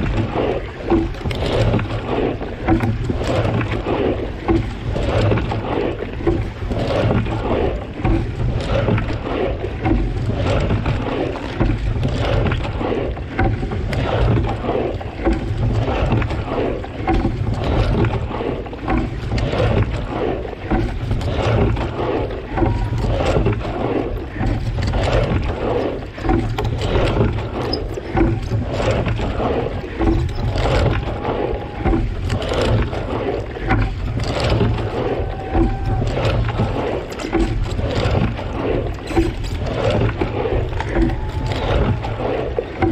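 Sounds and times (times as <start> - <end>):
oar blades splashing: 0.0 - 42.9
steady low rumble: 0.0 - 42.9
water sloshing against hull: 0.0 - 42.9.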